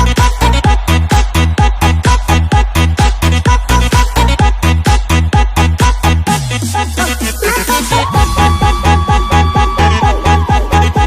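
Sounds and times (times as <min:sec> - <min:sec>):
fast kick-drum beat: 0:00.0 - 0:06.4, 0:08.1 - 0:11.0.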